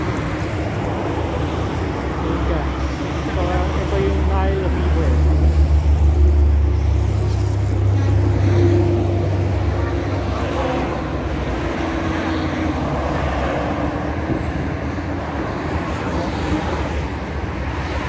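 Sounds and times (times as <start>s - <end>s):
busy road traffic: 0.0s - 18.0s
low traffic rumble: 0.0s - 18.0s.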